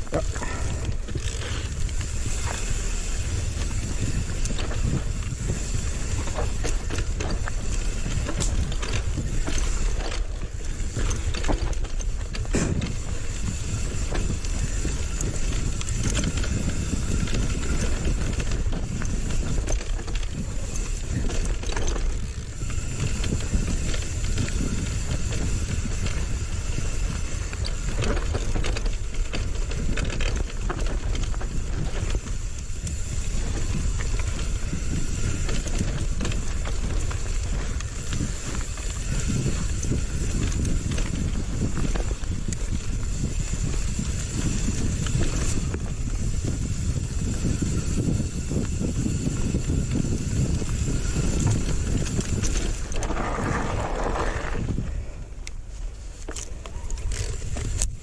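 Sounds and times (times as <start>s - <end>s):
bike knocking and rattling: 0.0s - 58.0s
tyre rumble on dirt trail: 0.0s - 58.0s
wind rushing over microphone: 0.0s - 58.0s.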